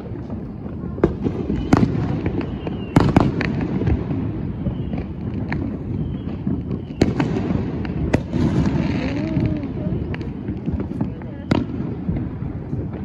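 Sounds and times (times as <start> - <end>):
fireworks bangs: 0.0 - 13.0
fireworks cracks: 0.0 - 13.0
rumble of distant explosions: 0.0 - 13.0.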